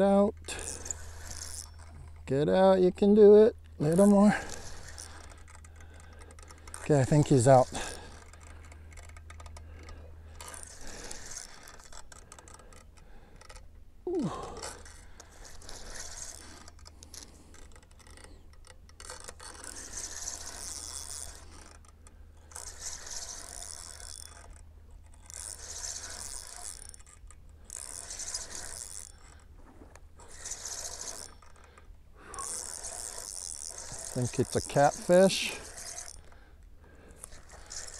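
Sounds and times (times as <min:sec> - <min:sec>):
spinning reel gears whirring: 0:00.0 - 0:37.9.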